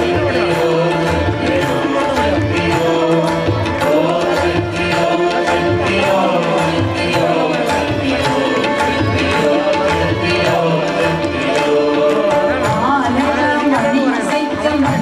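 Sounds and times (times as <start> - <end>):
tabla playing a steady rhythm: 0.0 - 15.0.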